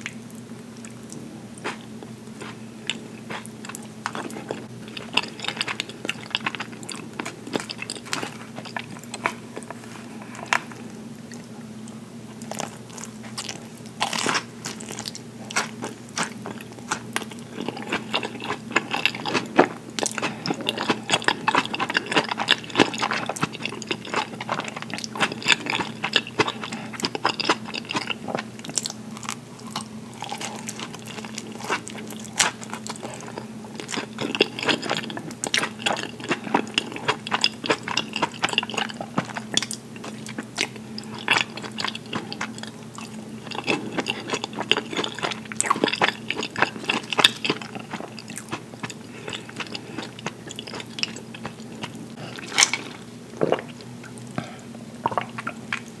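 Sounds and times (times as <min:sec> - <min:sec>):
steady low hum: 0:00.0 - 0:56.0
close chewing with mouth clicks: 0:00.8 - 0:11.5, 0:12.4 - 0:56.0.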